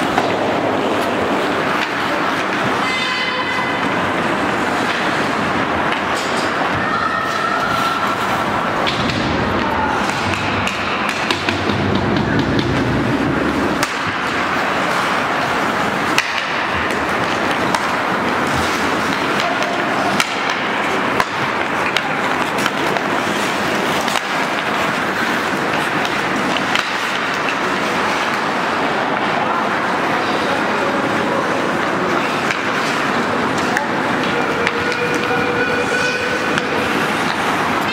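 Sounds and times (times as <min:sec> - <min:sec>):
hockey sticks and puck clacking: 0:00.0 - 0:37.9
skates scraping ice: 0:00.0 - 0:37.9.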